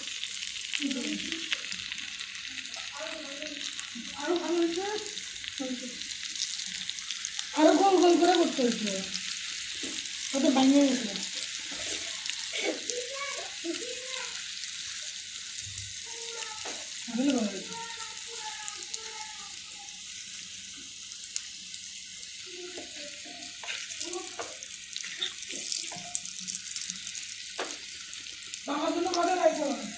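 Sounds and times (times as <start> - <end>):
onion rings deep-frying in oil: 0.0 - 29.9.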